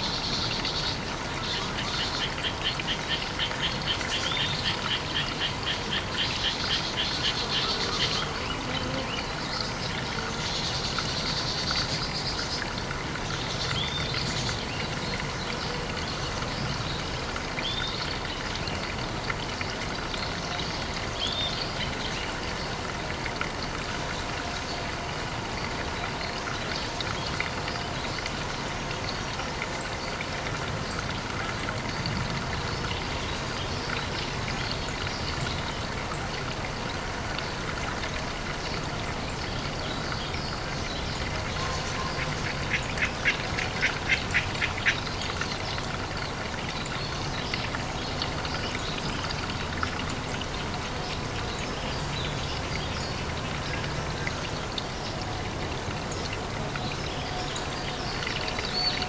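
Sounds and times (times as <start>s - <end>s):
water noise: 0.0s - 59.0s.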